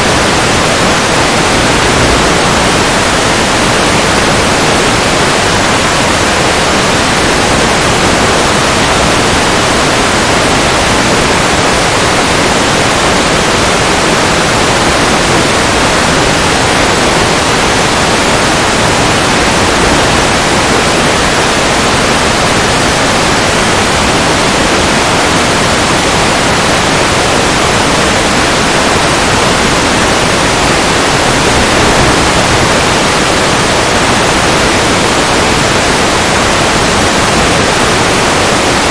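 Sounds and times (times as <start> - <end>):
loud static hiss: 0.0 - 38.9.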